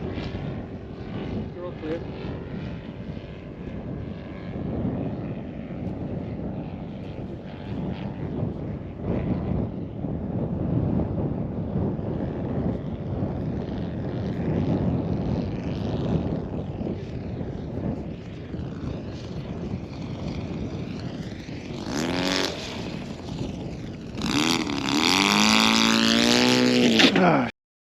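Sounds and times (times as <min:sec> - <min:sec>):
model aircraft engine running: 0:00.0 - 0:27.5
wind on microphone: 0:00.0 - 0:27.5.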